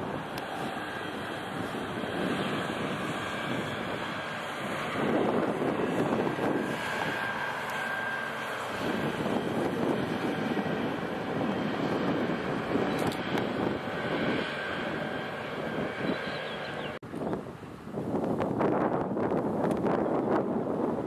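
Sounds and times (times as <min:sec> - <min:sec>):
engine rumble: 0:00.0 - 0:21.0
roaring wind-like noise: 0:00.0 - 0:21.0.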